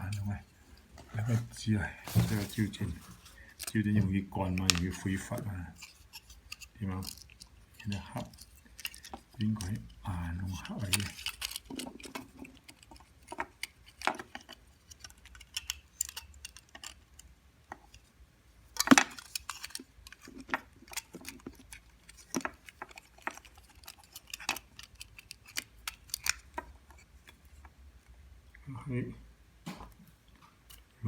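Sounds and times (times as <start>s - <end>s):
small parts and tools clicking: 2.0s - 18.1s, 18.7s - 27.8s.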